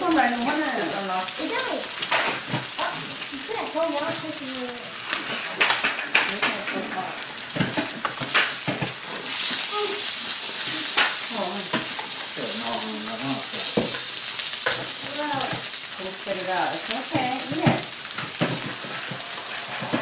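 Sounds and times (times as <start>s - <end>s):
food sizzling on a grill: 0.0s - 20.0s.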